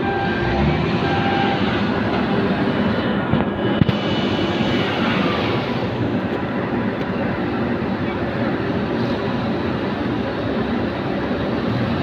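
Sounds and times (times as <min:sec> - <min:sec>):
heavy diesel machinery droning: 0:00.0 - 0:12.0.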